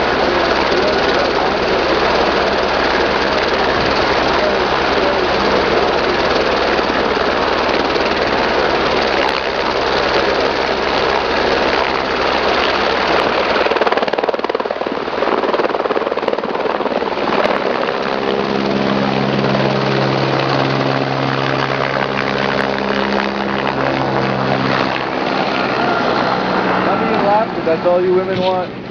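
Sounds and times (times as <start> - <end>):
helicopter turbine and rotor: 0.0 - 28.9
low hum of rotor tones: 0.0 - 28.9.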